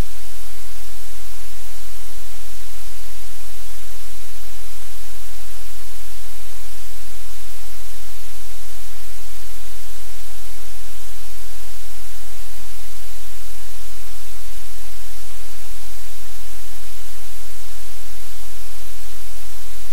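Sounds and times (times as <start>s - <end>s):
loud static hiss: 0.0s - 19.9s.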